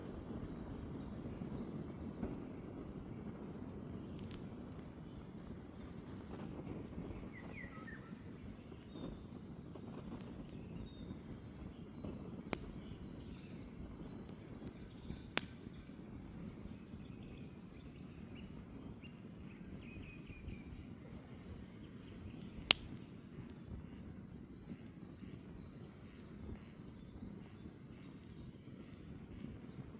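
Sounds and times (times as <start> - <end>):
campfire burning and popping: 0.0 - 29.9
faint birdsong: 0.0 - 29.9.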